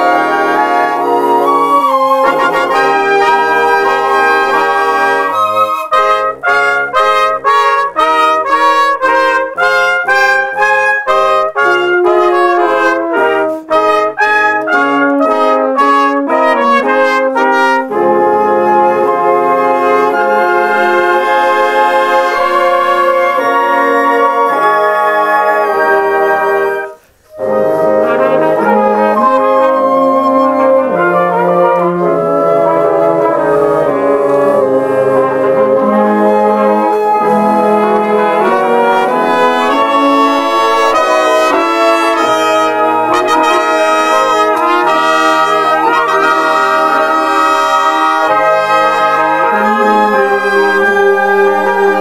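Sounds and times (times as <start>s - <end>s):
concert band brass chords: 0.0s - 52.0s.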